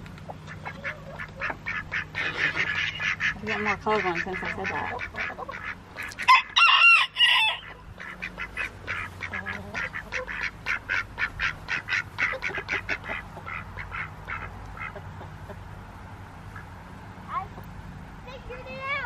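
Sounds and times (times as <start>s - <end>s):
ducks quacking: 0.3s - 15.8s, 16.4s - 16.8s
ducks honking: 0.3s - 16.9s.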